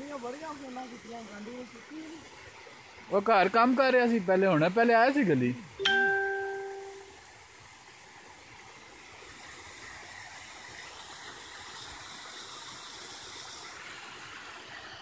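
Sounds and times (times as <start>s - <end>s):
waterfall splashing into pool: 0.0s - 15.0s.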